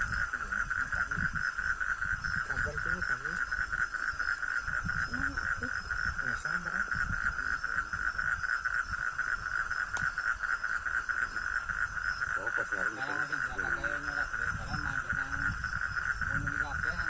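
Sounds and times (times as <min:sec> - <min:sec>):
night animals trilling: 0:00.0 - 0:17.0.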